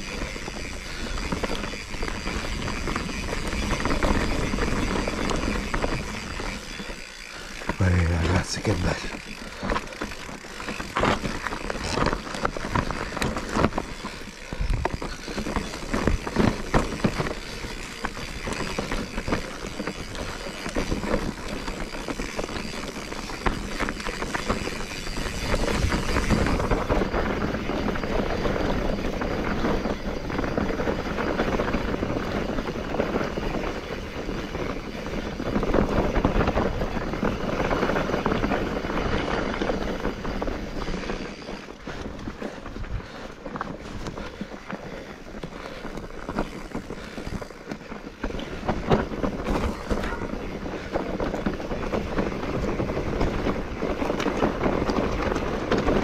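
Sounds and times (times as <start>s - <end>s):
vehicle on rough track: 0.0s - 56.0s.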